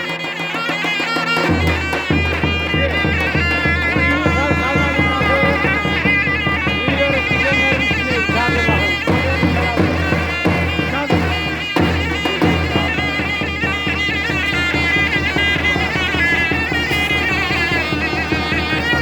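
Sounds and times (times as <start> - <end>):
reedy folk melody on shawm: 0.0 - 19.0.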